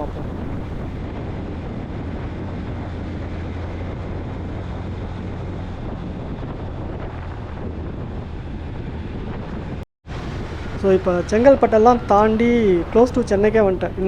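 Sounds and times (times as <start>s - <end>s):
motorcycle low rumble: 0.0s - 14.0s
wind rush on microphone: 0.0s - 14.0s.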